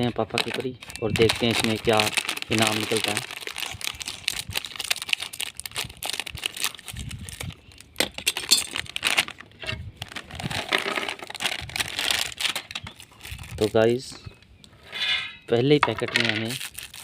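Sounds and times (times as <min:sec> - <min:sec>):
plastic snack packet crinkling: 0:00.0 - 0:14.1, 0:16.0 - 0:17.0.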